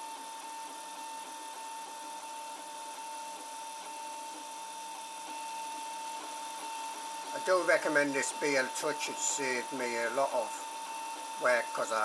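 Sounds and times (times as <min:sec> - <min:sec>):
printer motors whining: 0:00.0 - 0:12.0.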